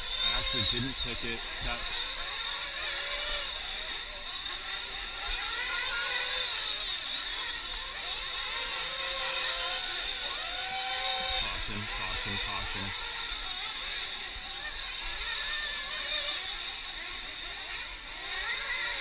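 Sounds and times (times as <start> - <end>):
rc truck engines racing: 0.0 - 19.0.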